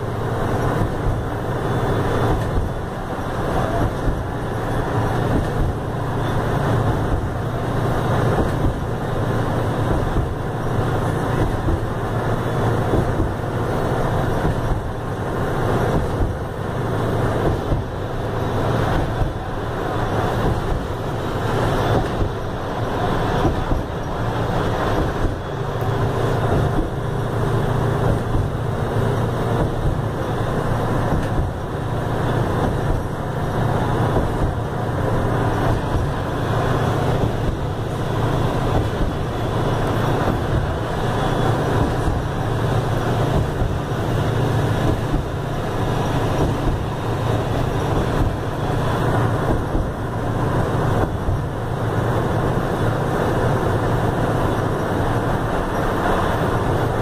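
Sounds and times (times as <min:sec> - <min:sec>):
bus diesel engine drone: 0:00.0 - 0:57.0
road and tyre noise: 0:00.0 - 0:57.0.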